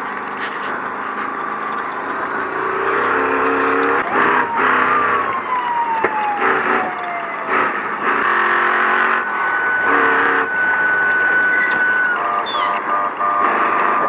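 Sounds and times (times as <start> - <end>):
loud race vehicle engine: 0.0 - 14.0
siren gliding up in pitch: 2.2 - 14.0.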